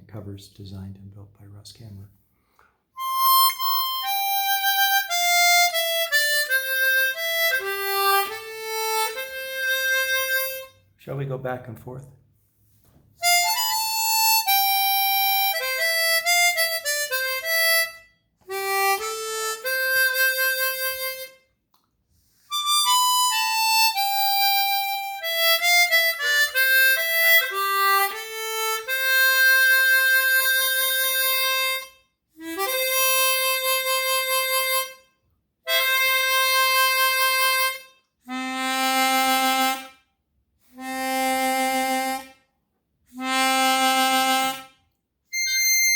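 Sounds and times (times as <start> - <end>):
chromatic harmonica playing: 2.9 - 11.2, 13.2 - 21.6, 22.2 - 42.5, 43.1 - 45.9.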